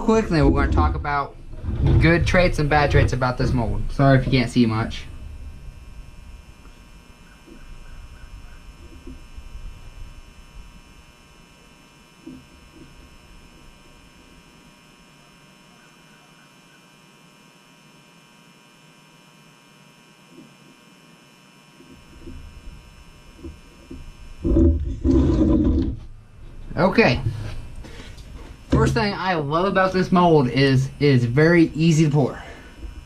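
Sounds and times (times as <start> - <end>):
steady electrical hum: 0.0 - 33.0.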